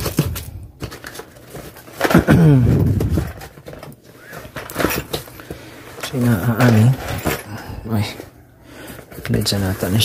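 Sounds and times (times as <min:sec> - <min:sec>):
plastic wrapped box crinkling: 0:00.0 - 0:10.0.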